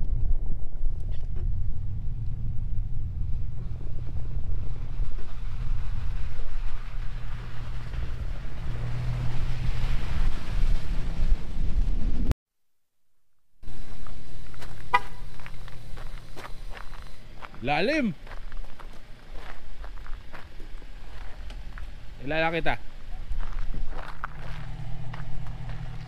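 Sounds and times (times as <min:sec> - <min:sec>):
truck engine running: 0:00.2 - 0:12.3, 0:13.6 - 0:26.0.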